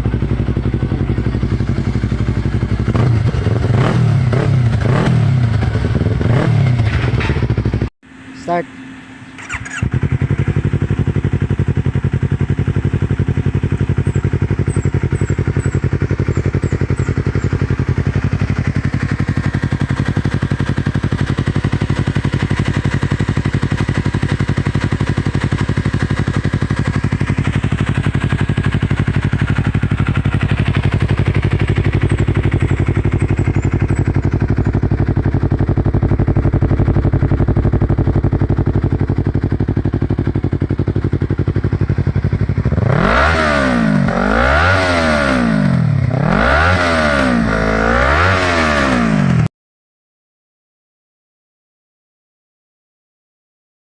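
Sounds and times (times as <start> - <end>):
motorcycle engine running: 0.0 - 8.6, 9.2 - 49.5.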